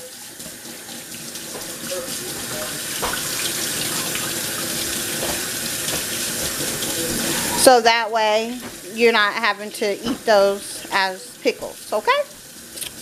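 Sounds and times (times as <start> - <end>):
faucet water splashing in sink: 0.0 - 13.0.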